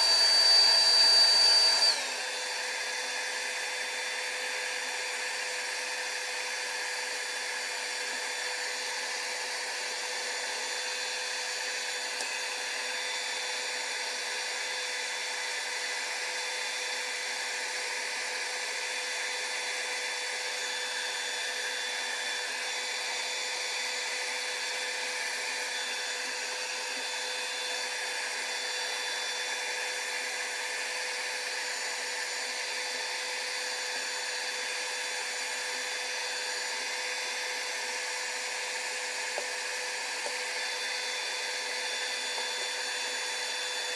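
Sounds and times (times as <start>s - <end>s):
hot-air blower whirring: 0.0s - 43.9s.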